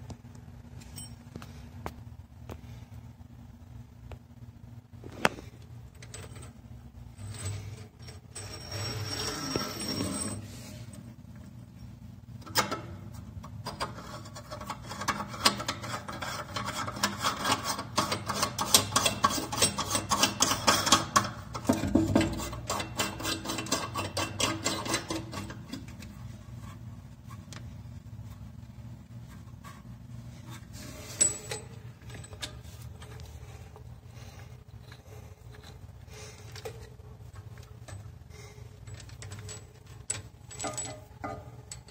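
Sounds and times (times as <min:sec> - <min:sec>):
metal hoses scraping and clicking: 0:06.0 - 0:41.9.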